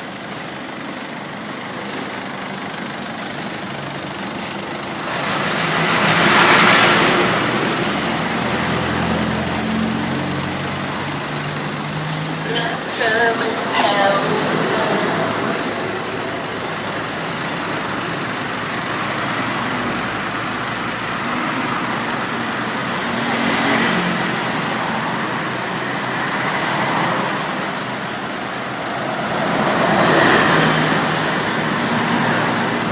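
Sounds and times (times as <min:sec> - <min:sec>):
road traffic noise: 0:00.0 - 0:32.9
vehicles passing close by: 0:00.0 - 0:32.9.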